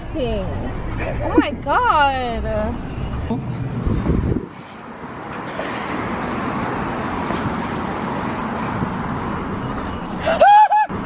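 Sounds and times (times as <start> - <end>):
steady rushing noise: 0.3 - 10.4.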